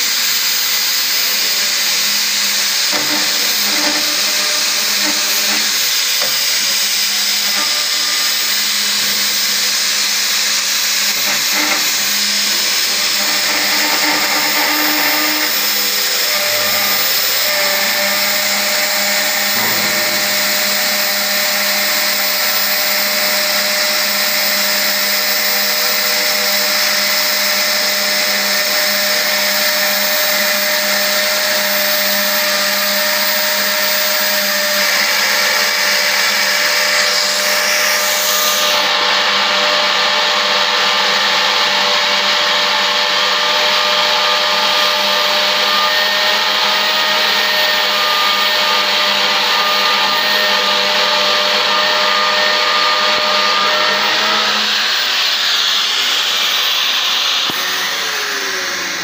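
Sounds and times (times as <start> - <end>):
cutter rasping metal: 0.0 - 59.0
milling machine motor whine: 0.0 - 59.0.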